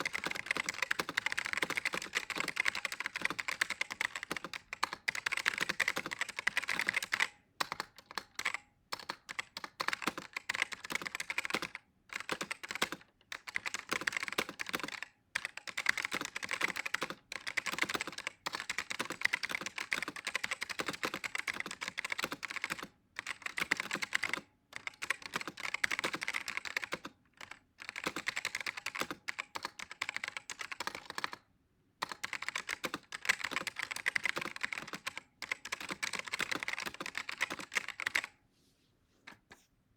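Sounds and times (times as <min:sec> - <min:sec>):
fast keyboard typing: 0:00.0 - 0:31.4, 0:32.0 - 0:38.4.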